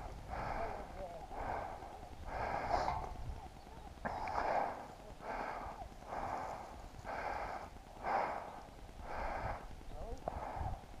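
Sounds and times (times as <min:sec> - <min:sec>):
person breathing hard: 0:00.0 - 0:03.3, 0:04.0 - 0:11.0.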